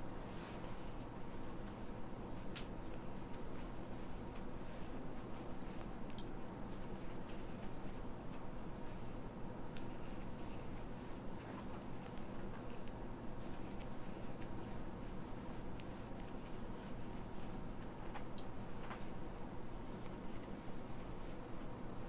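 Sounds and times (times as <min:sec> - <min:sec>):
steady low hum: 0:00.0 - 0:22.0
crochet hook scratching yarn: 0:02.4 - 0:18.0, 0:19.8 - 0:21.8.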